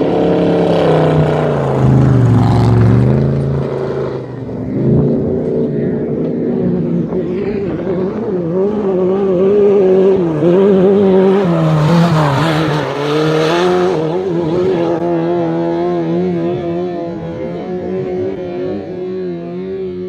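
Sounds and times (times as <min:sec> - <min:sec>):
race vehicle engine at speed: 0:00.0 - 0:20.0.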